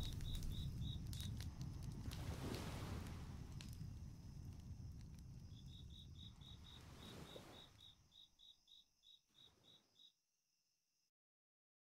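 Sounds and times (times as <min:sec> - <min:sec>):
cricket chirping: 0:00.0 - 0:10.8.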